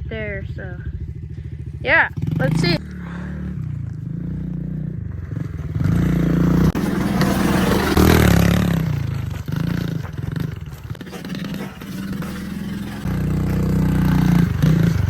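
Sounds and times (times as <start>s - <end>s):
pit bike engine revving: 0.0s - 15.0s
gritty scraping of dirt: 2.2s - 15.0s.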